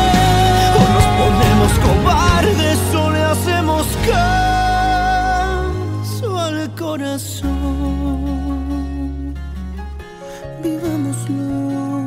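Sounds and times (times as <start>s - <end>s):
pop ballad music: 0.0s - 12.0s.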